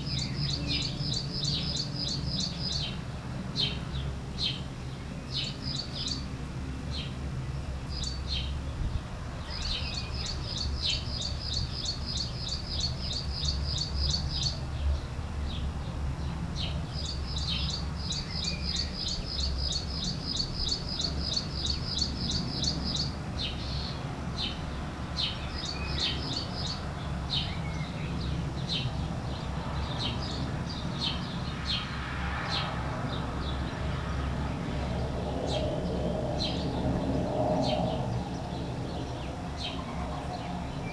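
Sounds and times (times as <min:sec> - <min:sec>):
small birds calling: 0:00.0 - 0:03.0, 0:03.6 - 0:06.3, 0:09.4 - 0:32.7, 0:34.8 - 0:40.9.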